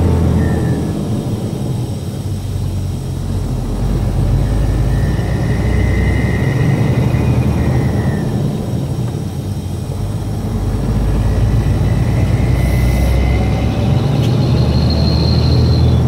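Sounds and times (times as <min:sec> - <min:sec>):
faint high-pitched whine: 0:00.0 - 0:16.0
road noise: 0:00.0 - 0:16.0
truck engine droning: 0:00.0 - 0:16.0.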